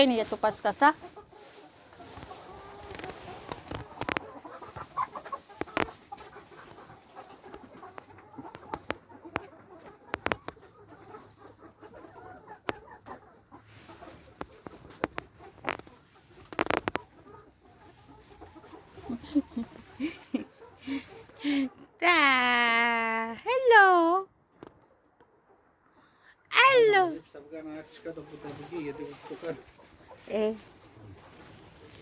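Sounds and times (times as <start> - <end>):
chickens clucking: 0.0 - 22.0, 24.3 - 32.0.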